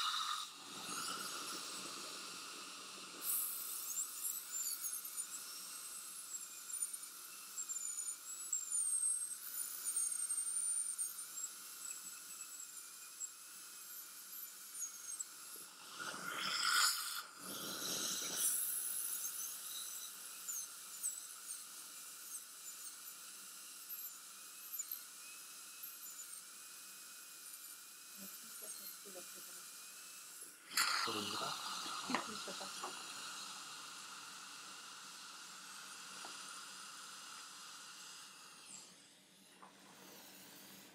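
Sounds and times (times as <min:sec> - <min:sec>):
dental drill whining: 0:00.0 - 0:40.9.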